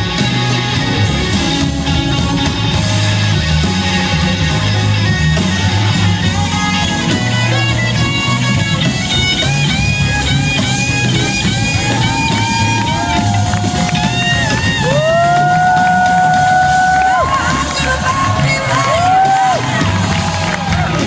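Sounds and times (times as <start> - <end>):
electric guitar lead: 0.0 - 21.0
live rock band through pa: 0.0 - 21.0.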